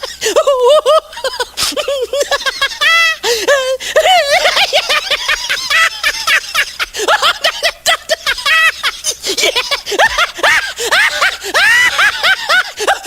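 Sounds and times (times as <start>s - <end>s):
high-pitched laughter bursts: 0.0s - 13.0s.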